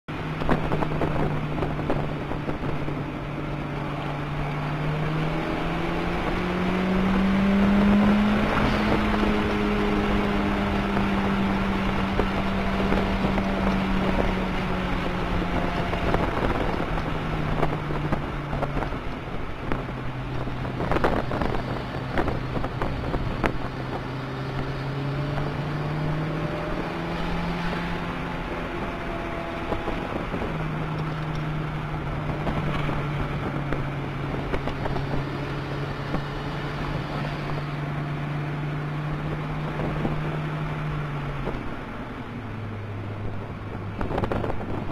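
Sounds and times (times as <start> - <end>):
turbocharged car engine: 0.1 - 44.9
wind and road noise: 0.1 - 44.9.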